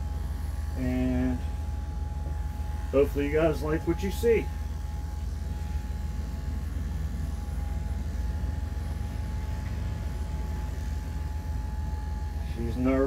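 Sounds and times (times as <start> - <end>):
dog clippers buzzing: 0.0 - 13.0.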